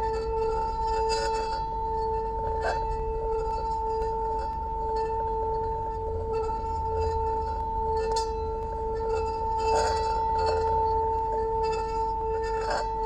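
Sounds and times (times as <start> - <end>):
singing bowl two-tone hum: 0.0 - 13.0.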